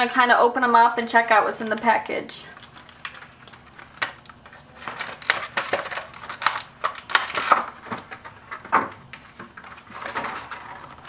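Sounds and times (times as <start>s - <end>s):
plastic packaging crinkling: 1.0s - 11.0s.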